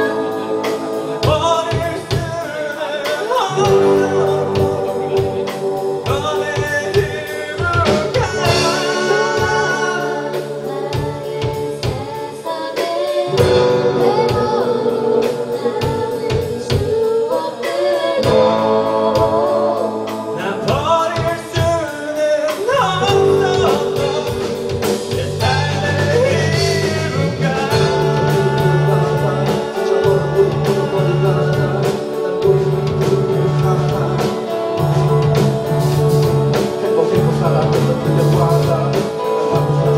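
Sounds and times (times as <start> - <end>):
bass guitar: 0.0 - 12.3, 13.3 - 39.9
drums: 0.0 - 39.9
electric guitar: 0.0 - 39.9
lead singer singing: 0.0 - 39.9.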